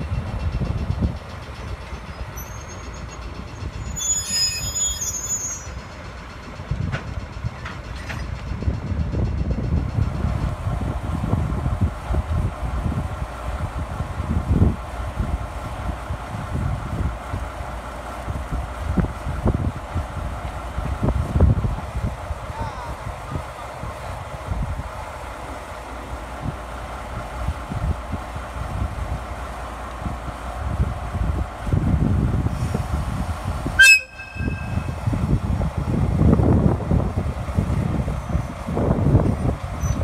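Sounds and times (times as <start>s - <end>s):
wind buffeting microphone: 0.0s - 2.4s, 5.9s - 17.6s, 18.2s - 25.2s, 26.2s - 40.0s
diesel locomotive idling: 0.0s - 40.0s.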